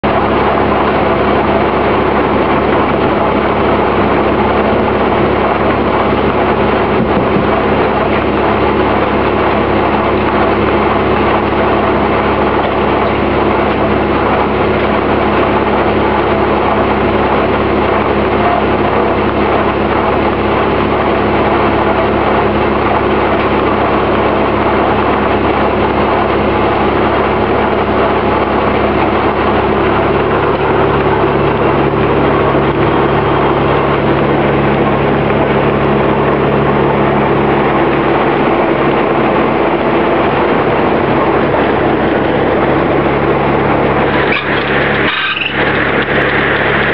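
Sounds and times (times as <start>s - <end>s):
sawmill mechanical drone: 0.0s - 46.9s.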